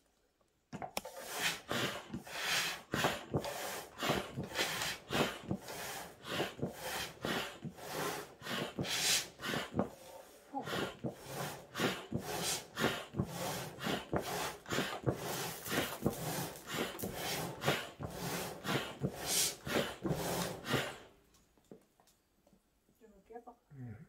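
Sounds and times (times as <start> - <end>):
foot bellows pumping air: 0.8 - 21.2.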